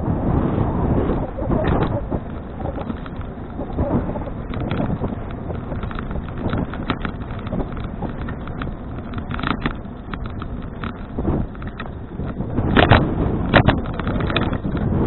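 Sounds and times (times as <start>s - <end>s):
bicycle tyres rumbling on road: 0.0s - 15.0s
wind buffeting microphone: 0.0s - 15.0s.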